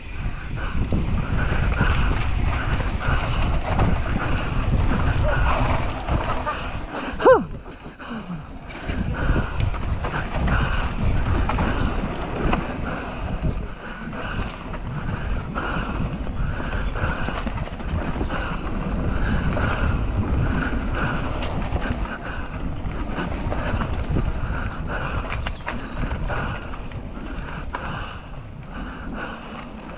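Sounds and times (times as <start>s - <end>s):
mountain bike rattling on trail: 0.0s - 29.9s
wind buffeting microphone: 0.0s - 29.9s.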